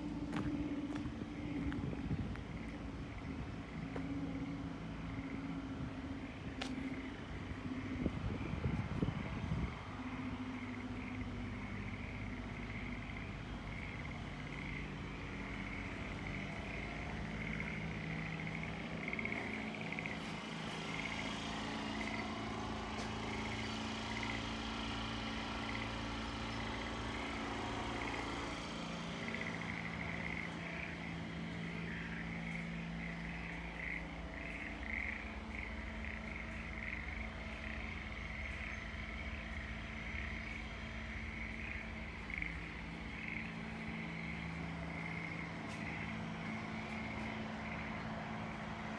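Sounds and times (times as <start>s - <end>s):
frogs calling: 0.0s - 48.9s
low steady hum: 0.0s - 48.9s
vehicle passing: 0.0s - 48.9s.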